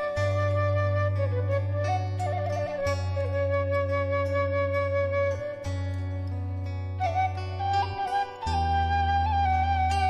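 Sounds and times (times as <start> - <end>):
flute melody: 0.0 - 10.0.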